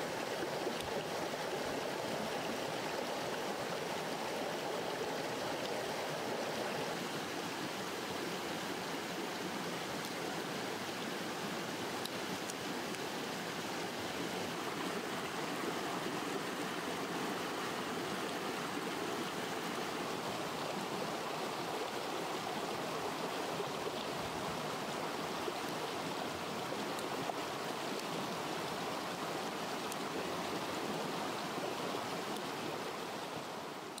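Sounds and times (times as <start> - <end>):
flowing stream water: 0.0 - 34.0.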